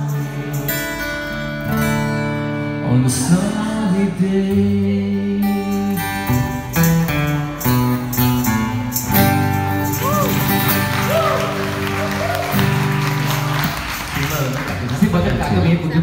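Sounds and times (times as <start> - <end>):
acoustic guitar strumming: 0.0 - 15.3.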